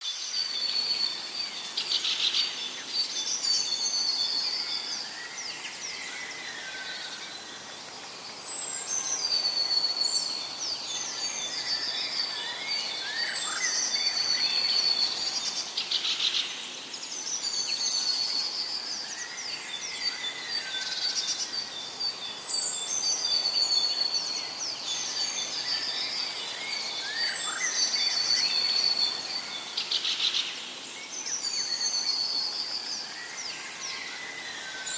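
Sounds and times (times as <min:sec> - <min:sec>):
birds singing and calling: 0:00.0 - 0:34.9.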